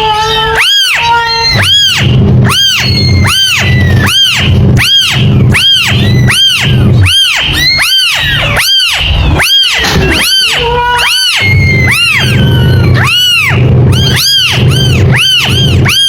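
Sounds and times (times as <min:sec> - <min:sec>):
kitten meowing: 0:00.0 - 0:16.0
steady low hum: 0:01.1 - 0:16.0.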